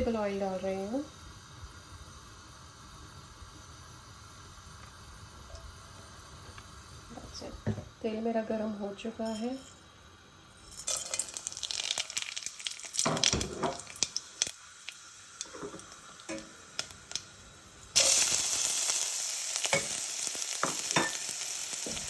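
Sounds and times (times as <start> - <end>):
food frying in oil: 0.0 - 22.0.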